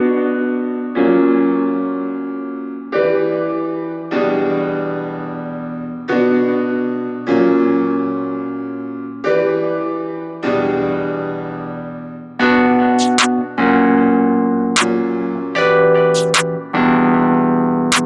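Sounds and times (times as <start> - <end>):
sustained piano chords: 0.0 - 18.0.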